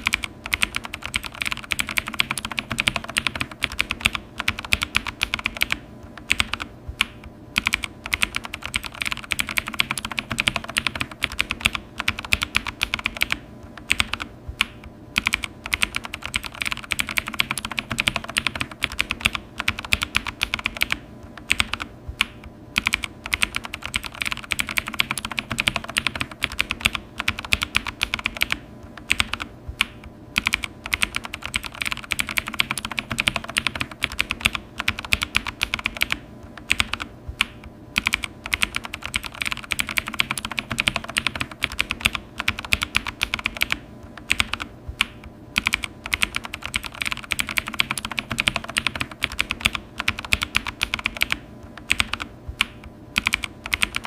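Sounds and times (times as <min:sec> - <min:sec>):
fast keyboard typing: 0:00.0 - 0:54.0.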